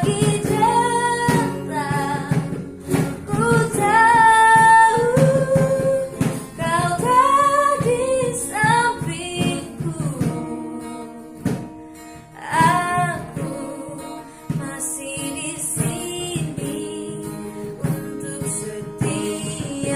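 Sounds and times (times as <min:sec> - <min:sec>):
acoustic guitar strumming: 0:00.0 - 0:19.9
woman singing: 0:00.0 - 0:19.9.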